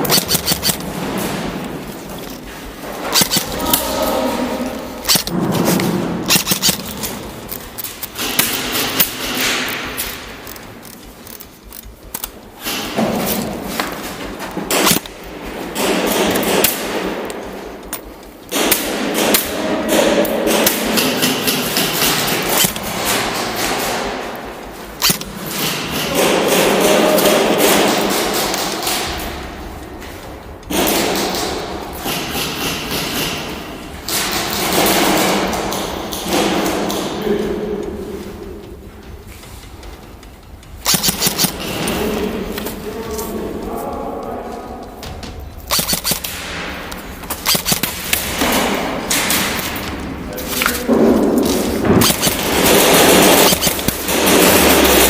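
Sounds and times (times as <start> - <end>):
airsoft guns firing: 0.0 - 29.8, 30.6 - 37.4, 40.7 - 43.3, 45.0 - 55.0
noisy background: 0.0 - 55.0.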